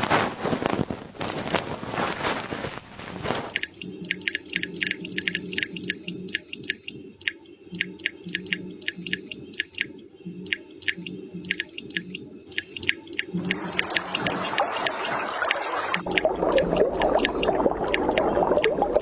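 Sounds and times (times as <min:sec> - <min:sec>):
low intermittent hum: 0:00.0 - 0:19.0
ear wax crackling and clicking: 0:00.1 - 0:09.9, 0:10.5 - 0:19.0.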